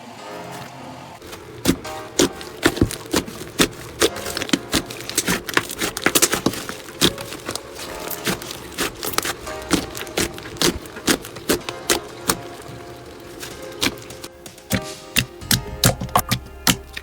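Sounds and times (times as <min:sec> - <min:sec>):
slime popping and crackling: 0:01.2 - 0:17.0.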